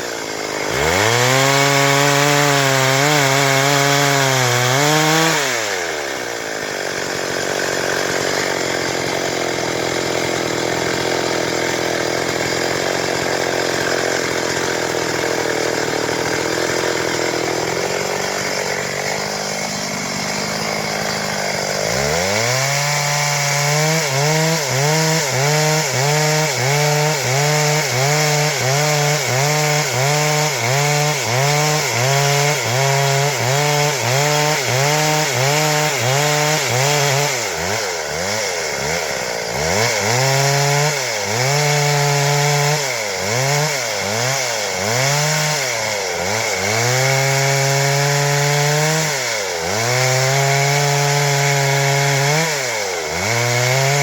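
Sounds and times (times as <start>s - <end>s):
chainsaw cutting through wood: 0.0s - 54.0s.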